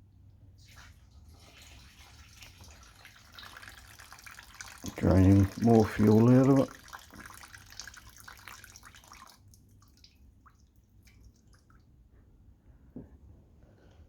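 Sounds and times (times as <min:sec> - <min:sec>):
fuel trickling and dripping: 0:00.7 - 0:12.1.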